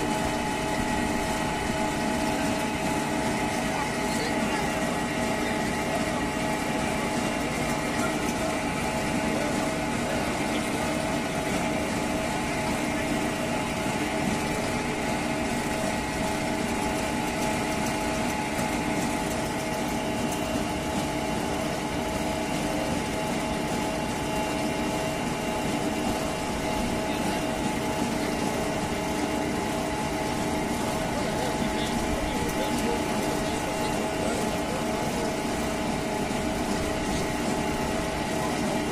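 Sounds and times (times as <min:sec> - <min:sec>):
tractor engine droning: 0:00.0 - 0:38.9
faint crowd chatter: 0:00.2 - 0:38.9.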